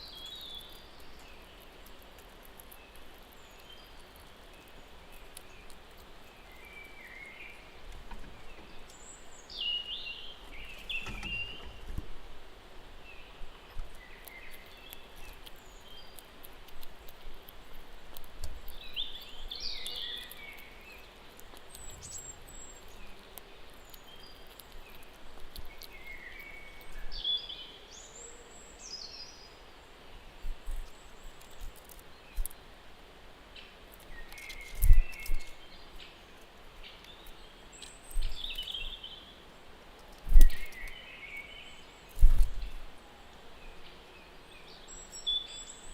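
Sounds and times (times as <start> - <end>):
small birds chirping: 0.0 - 45.9
steady outdoor hiss: 0.0 - 45.9.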